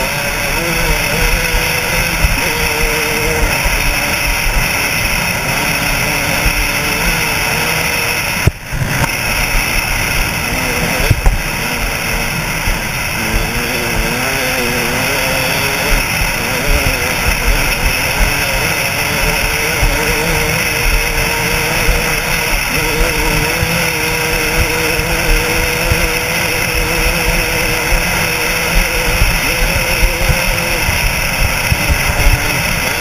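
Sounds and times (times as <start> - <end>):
dirt bike engine revving: 0.0 - 33.0
wind rush: 0.0 - 33.0.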